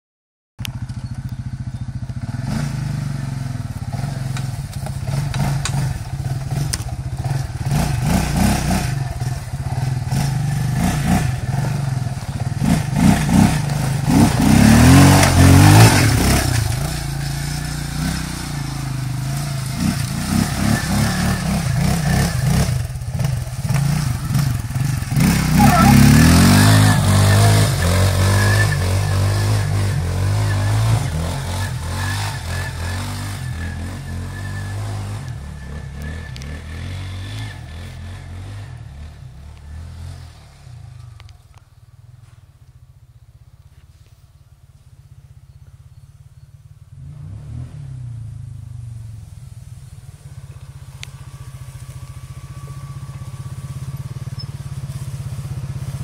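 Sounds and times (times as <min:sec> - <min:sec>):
quad bike engine revving: 0:00.6 - 0:41.6, 0:45.4 - 0:49.4, 0:50.0 - 0:56.0.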